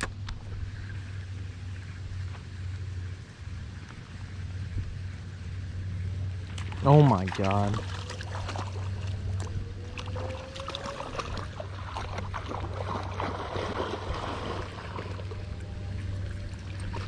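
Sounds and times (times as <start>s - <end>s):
water lapping and splashing: 0.0s - 17.0s.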